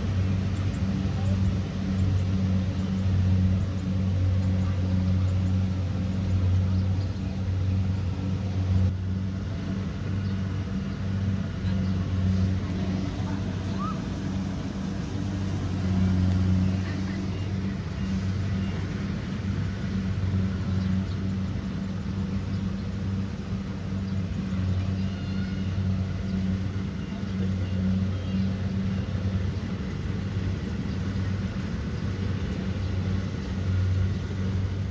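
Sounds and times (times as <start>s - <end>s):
combine harvester engine droning: 0.0s - 34.9s.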